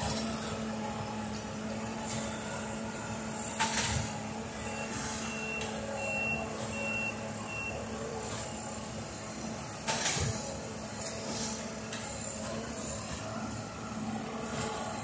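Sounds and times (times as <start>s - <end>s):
rail machine engine running: 0.0s - 15.0s.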